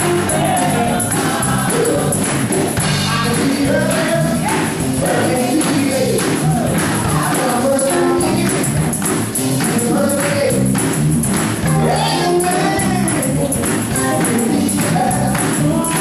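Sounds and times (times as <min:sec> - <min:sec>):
man singing lead into microphone: 0:00.0 - 0:02.2, 0:02.9 - 0:08.7, 0:09.6 - 0:10.7, 0:11.7 - 0:16.0
gospel choir singing: 0:00.0 - 0:08.7, 0:11.7 - 0:16.0
electric guitar: 0:00.0 - 0:16.0
tambourine: 0:00.0 - 0:16.0.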